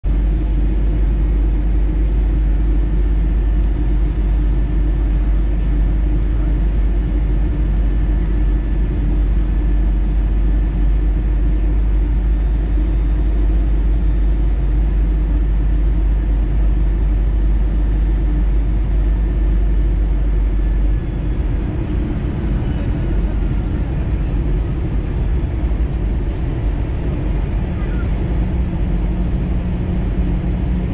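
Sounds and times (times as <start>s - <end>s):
aircraft cabin engine rumble: 0.0s - 30.9s.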